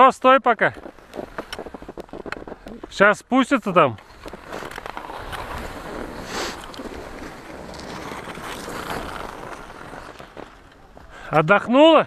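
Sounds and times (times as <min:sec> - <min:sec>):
skis scraping on snow: 0:00.2 - 0:12.0.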